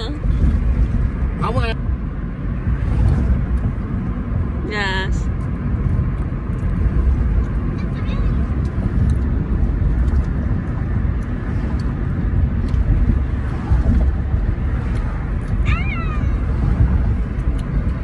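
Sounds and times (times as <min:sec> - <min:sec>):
car cabin road rumble: 0:00.0 - 0:18.0.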